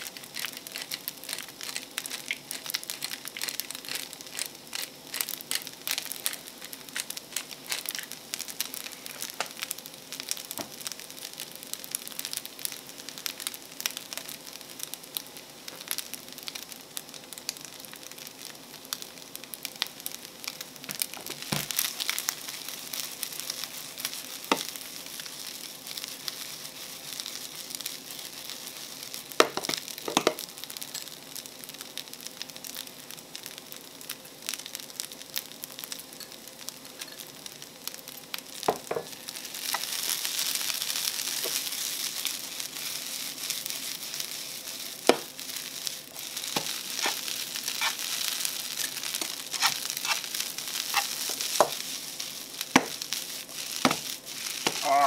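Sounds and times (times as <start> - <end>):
rice sizzling in frying pan: 0.0 - 55.0.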